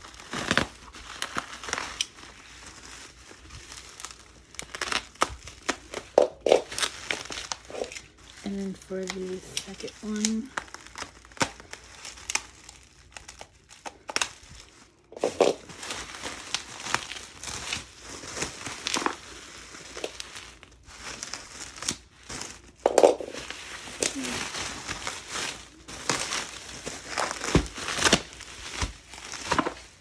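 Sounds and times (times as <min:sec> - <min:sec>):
packaging crinkling and rustling: 0:00.0 - 0:30.0.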